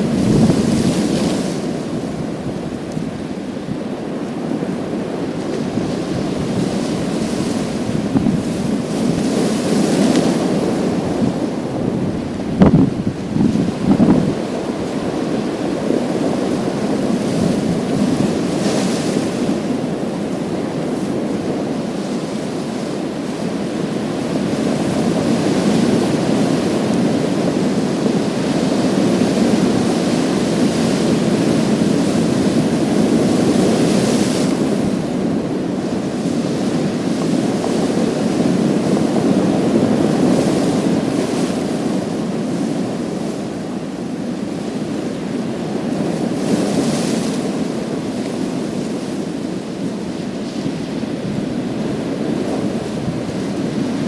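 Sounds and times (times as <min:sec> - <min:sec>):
waves washing over pebbles: 0:00.0 - 0:54.0.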